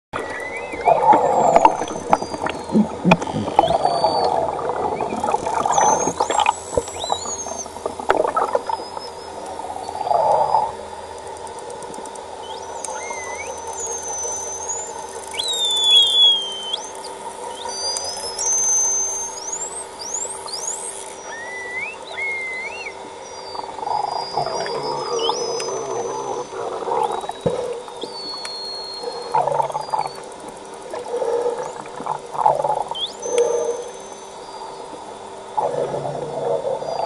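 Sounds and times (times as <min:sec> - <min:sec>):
steady low hum: 0:00.2 - 0:37.0
whales whistling underwater: 0:00.2 - 0:37.0.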